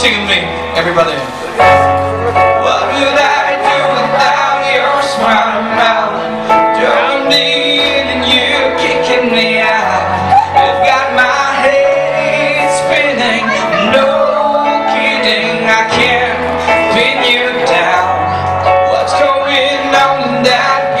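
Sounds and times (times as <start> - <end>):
keyboard accompaniment: 0.0 - 21.0
man singing into microphone: 2.2 - 21.0.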